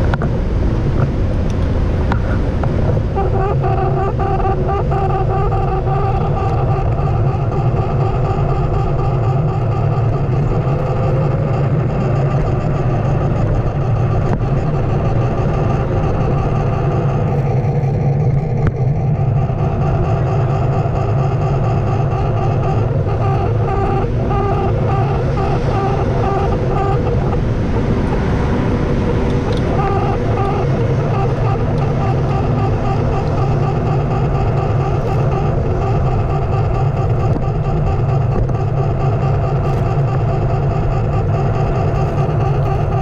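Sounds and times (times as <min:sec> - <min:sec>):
car traffic: 0:00.0 - 0:43.0
electric board motor and tyre hum: 0:00.0 - 0:43.0.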